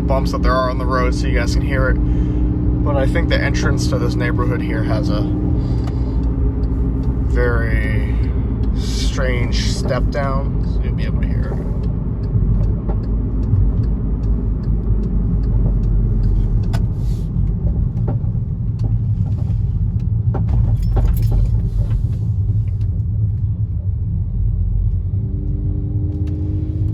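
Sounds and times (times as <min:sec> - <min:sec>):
road rumble inside car: 0:00.0 - 0:26.9.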